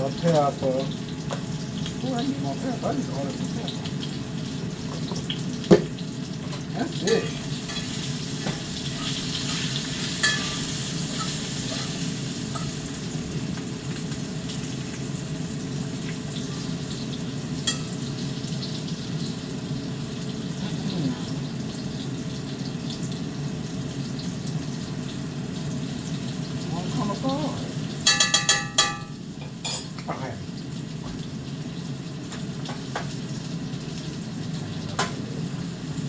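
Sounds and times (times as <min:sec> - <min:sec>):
potatoes sizzling in skillet: 0:00.0 - 0:36.0.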